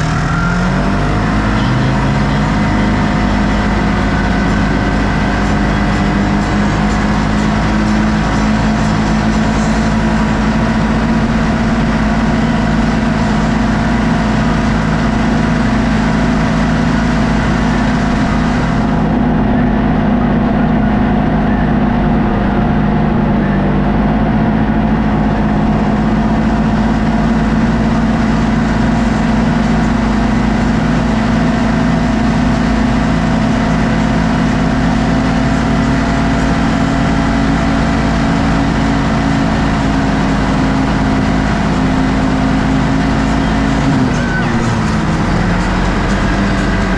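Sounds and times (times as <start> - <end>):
vehicle engine humming: 0.0 - 46.9.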